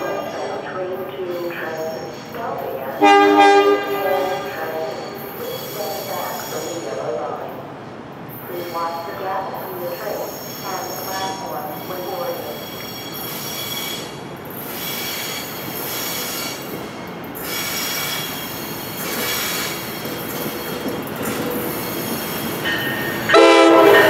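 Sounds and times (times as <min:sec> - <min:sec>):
train wheel squeal on rails: 0:00.0 - 0:02.8, 0:04.0 - 0:07.0, 0:08.3 - 0:24.0.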